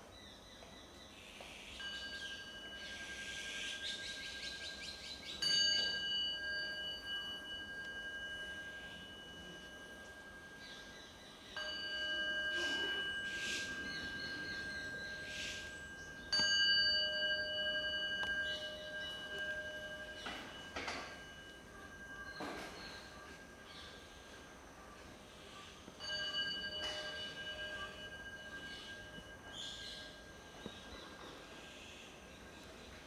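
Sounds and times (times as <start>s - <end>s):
bowl bell ringing: 1.8s - 33.0s.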